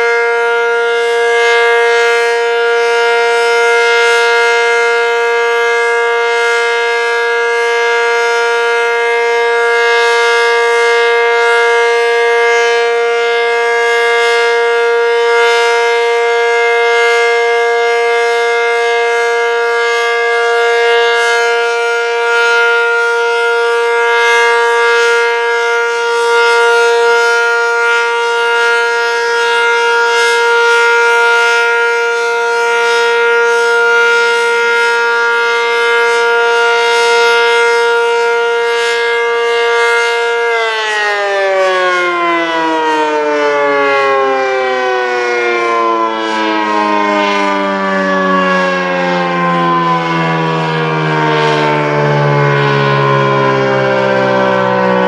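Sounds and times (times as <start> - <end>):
mechanical siren steady tone: 0.0 - 55.0.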